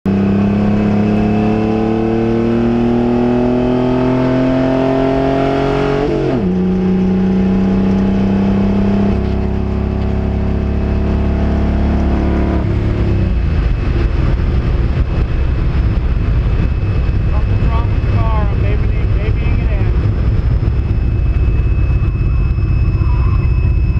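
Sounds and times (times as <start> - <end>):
engine blowing rough noise: 0.1 - 23.9
race car engine under load: 0.1 - 23.9.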